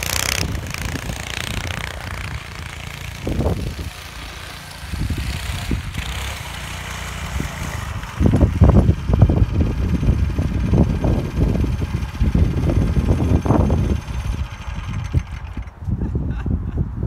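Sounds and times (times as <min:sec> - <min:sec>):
small engine idling: 0:00.0 - 0:15.9.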